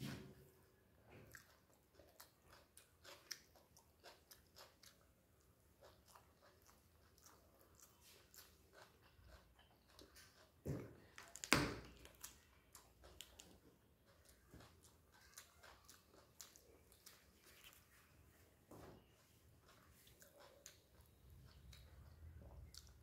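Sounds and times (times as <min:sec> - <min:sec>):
person chewing wet smacks: 0:01.1 - 0:18.2, 0:19.2 - 0:23.0
loud chewing crunching: 0:01.2 - 0:18.2, 0:19.4 - 0:23.0.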